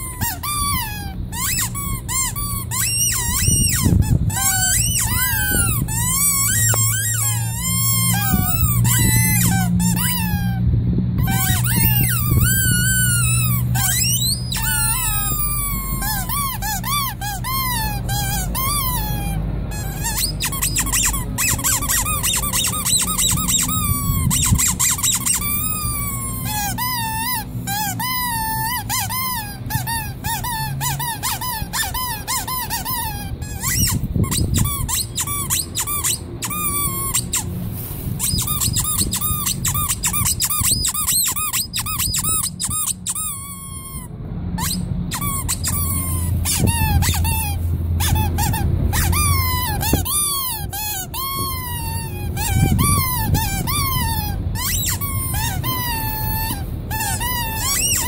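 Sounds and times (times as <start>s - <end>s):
rubber squeaky toy squeaking: 0.0s - 58.0s.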